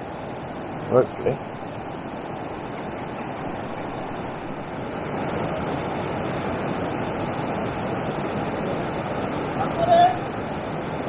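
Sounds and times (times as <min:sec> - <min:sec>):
water rushing over weir: 0:00.0 - 0:11.0.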